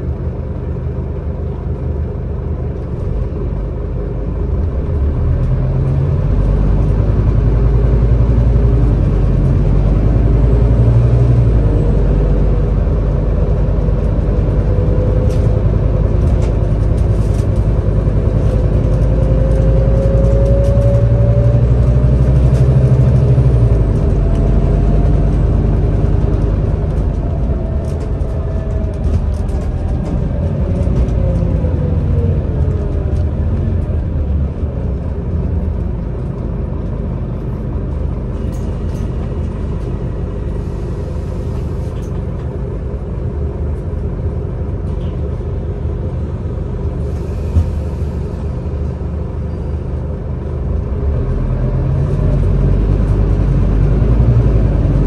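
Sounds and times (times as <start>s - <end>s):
bus engine deep rumble: 0.0s - 55.0s
drivetrain whine: 0.0s - 55.0s.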